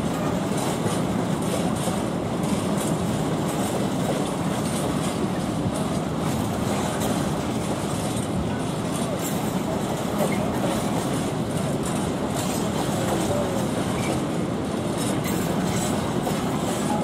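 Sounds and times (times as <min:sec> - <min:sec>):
train wagons rumbling: 0:00.0 - 0:17.0
wheels clicking on track: 0:00.0 - 0:17.0.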